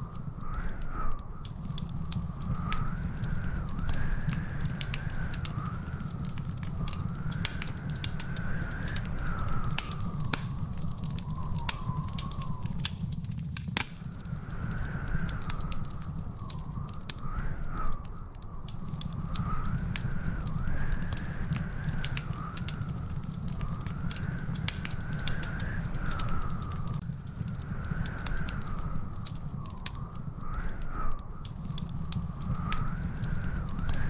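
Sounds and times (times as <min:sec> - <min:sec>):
thin whistling tone: 0:00.0 - 0:13.3, 0:14.0 - 0:27.0, 0:27.6 - 0:34.0
wood fire crackling and popping: 0:00.0 - 0:34.0.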